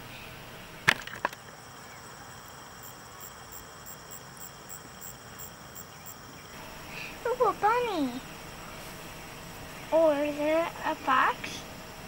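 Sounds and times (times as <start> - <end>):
insects chirping: 0.1 - 12.0.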